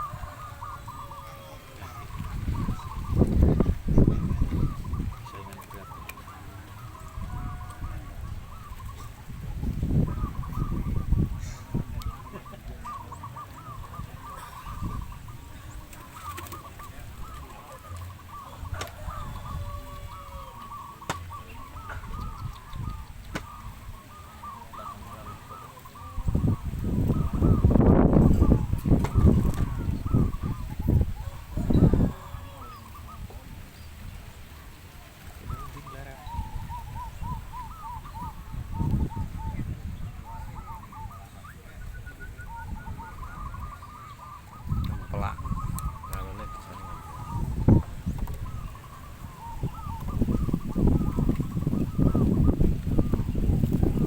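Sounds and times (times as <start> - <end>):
doves cooing: 0.0 - 54.0
wind rumble on microphone: 0.0 - 54.0.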